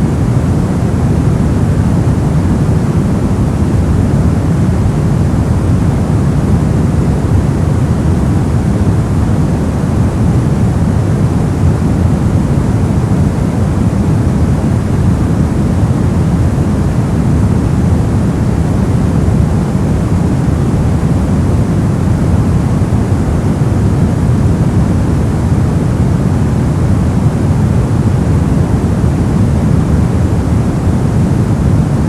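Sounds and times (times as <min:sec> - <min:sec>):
deep white noise rush: 0:00.0 - 0:32.0.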